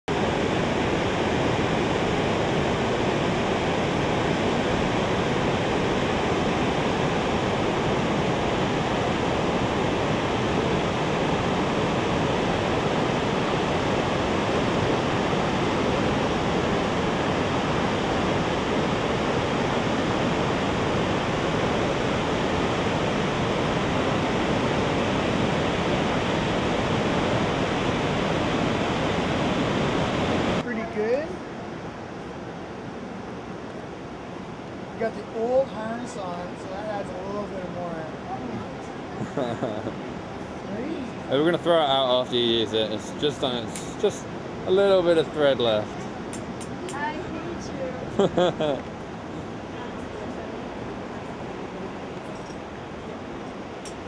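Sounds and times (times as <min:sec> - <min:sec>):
river water rushing: 0:00.1 - 0:54.0.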